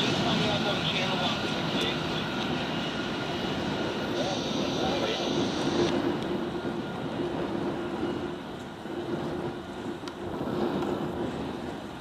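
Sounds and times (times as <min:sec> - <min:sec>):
diesel locomotive engine: 0:00.0 - 0:12.0.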